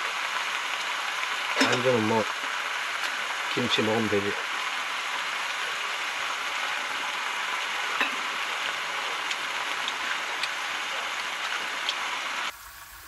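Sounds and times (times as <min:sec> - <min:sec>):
steak sizzling in a pan: 0:00.0 - 0:13.0.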